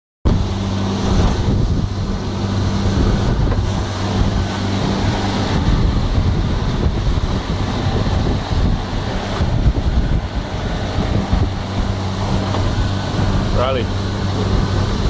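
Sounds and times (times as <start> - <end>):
motorboat engine humming: 0.2 - 15.0
wind buffeting microphone: 0.3 - 15.0.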